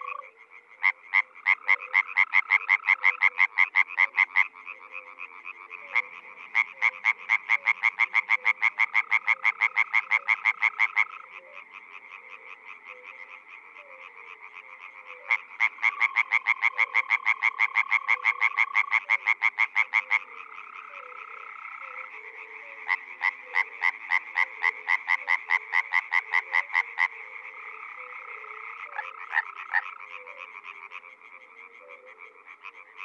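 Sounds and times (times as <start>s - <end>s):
chorus of frogs calling: 0.0s - 33.0s
tree frog rasping call: 0.0s - 33.0s.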